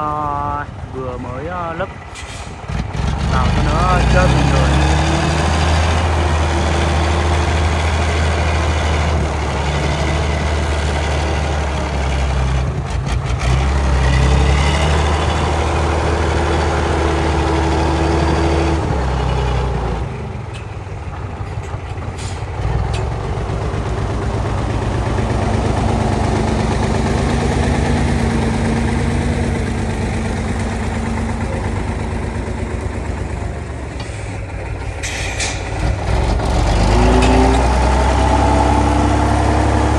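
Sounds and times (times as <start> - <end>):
diesel truck engine humming: 0.0 - 39.9.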